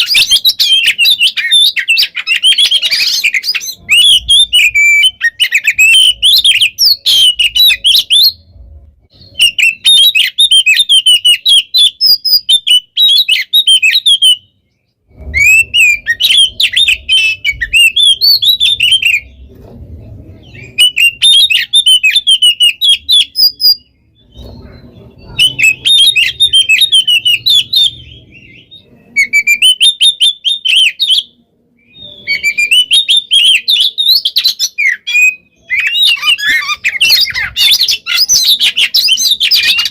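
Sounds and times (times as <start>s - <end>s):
bird singing whistles and trills: 0.0s - 19.6s, 20.3s - 39.9s.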